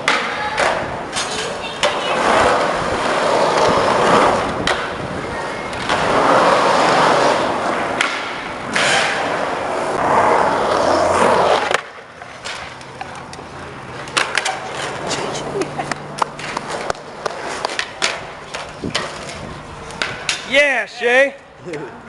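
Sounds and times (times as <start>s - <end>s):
skateboard clacks: 0.0s - 20.7s
skateboard wheels rolling on concrete: 0.0s - 22.0s.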